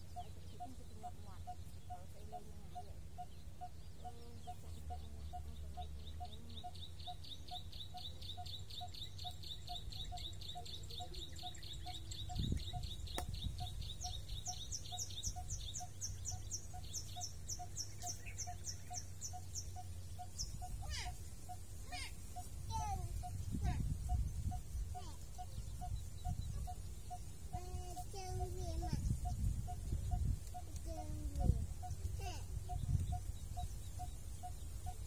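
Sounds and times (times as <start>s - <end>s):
birds calling high notes: 0.0s - 35.0s.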